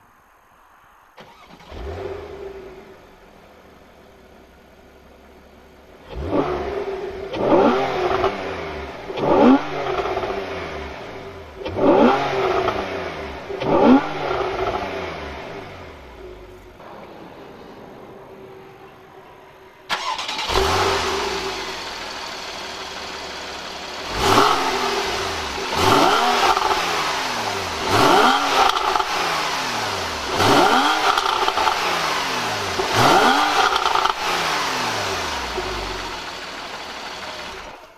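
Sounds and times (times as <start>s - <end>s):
car engine starting and idling: 0.1s - 37.9s
engine throttle blips: 1.2s - 37.9s.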